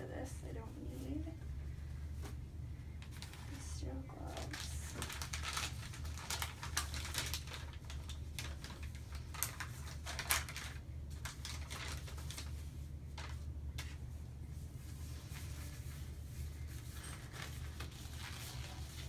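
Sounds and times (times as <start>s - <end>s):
steady low hum: 0.0s - 19.0s
wrappers crinkling: 3.0s - 19.0s.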